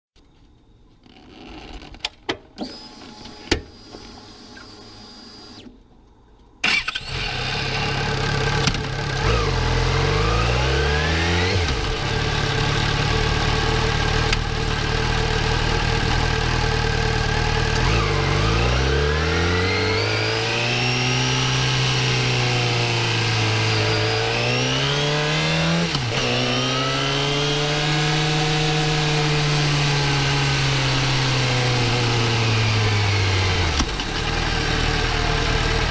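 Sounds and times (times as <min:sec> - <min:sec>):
motorcycle engine revving: 0:06.7 - 0:35.9.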